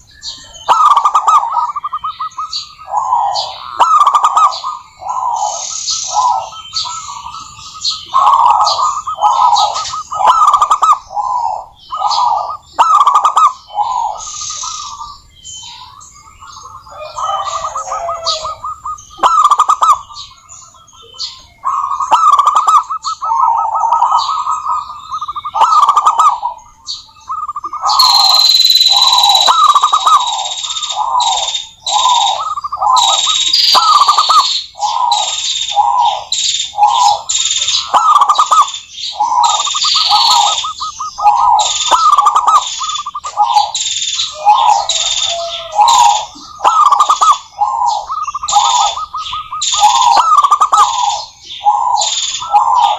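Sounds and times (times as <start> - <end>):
dove cooing: 0.0 - 26.7, 27.3 - 52.9.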